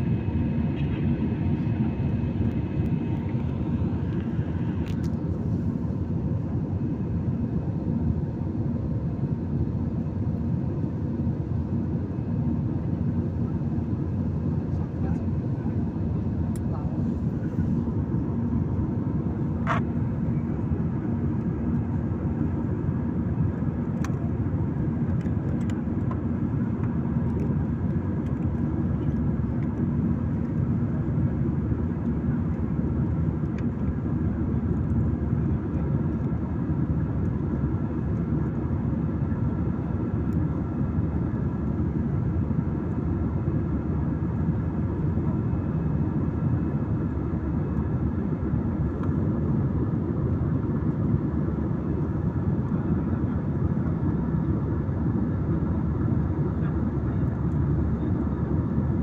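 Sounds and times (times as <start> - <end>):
jet cabin engine rush: 0.0 - 59.0.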